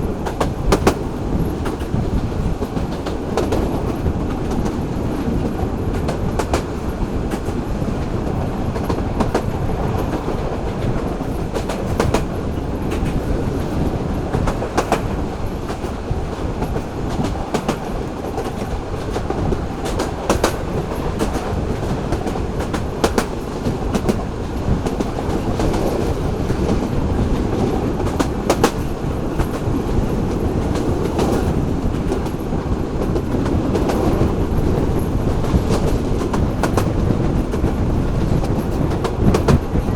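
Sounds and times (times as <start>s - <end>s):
train wheels rumbling on rail: 0.0s - 39.9s
wheels clacking on rail joints: 0.0s - 39.9s.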